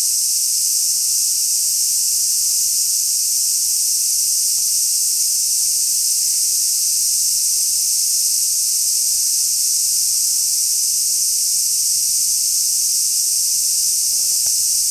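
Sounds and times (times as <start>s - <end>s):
cicadas singing: 0.0s - 14.9s.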